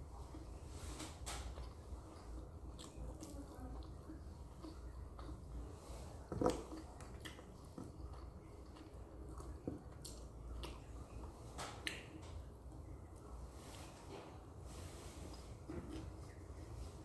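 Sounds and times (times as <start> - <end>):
person chewing and smacking: 0.1 - 13.9, 15.2 - 17.0.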